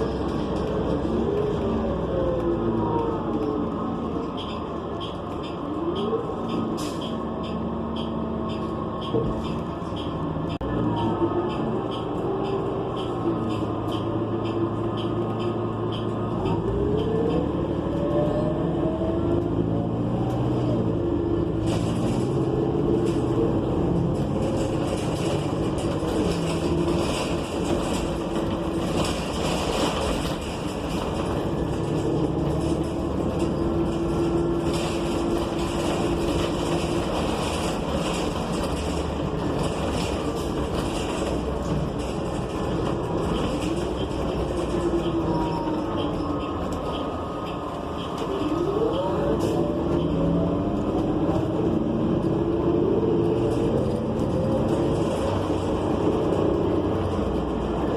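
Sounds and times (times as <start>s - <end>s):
bus engine and transmission whine: 0.0s - 57.9s
road and body noise: 0.0s - 57.9s.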